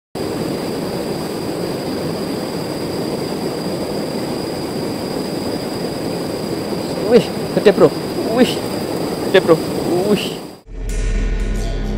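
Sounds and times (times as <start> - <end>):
river water rushing over rocks: 0.2 - 10.6.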